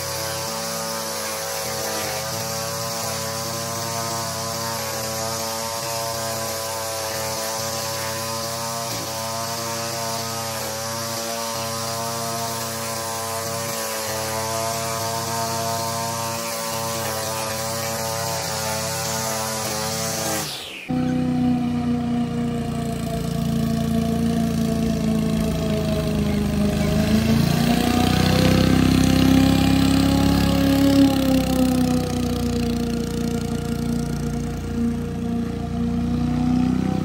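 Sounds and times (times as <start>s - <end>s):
lawn edger whining: 0.0s - 37.0s.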